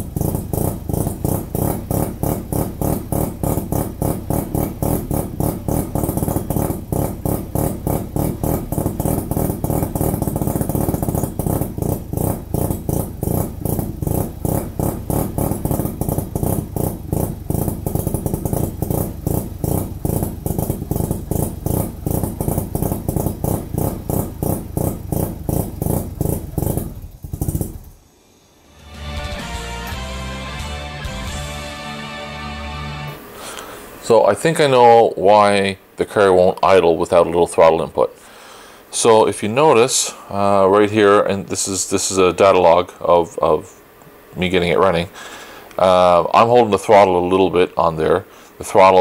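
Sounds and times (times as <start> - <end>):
rotary engine rough idle: 0.0 - 29.0, 33.1 - 49.0.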